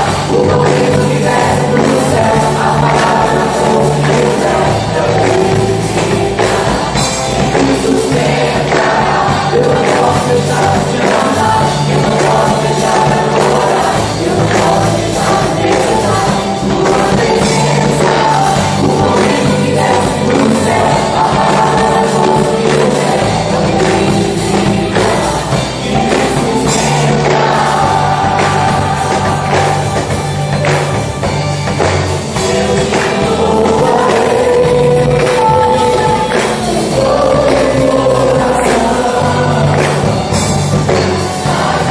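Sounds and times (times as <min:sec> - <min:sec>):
band with bass and drums: 0:00.0 - 0:41.9
group of voices singing: 0:00.0 - 0:41.9.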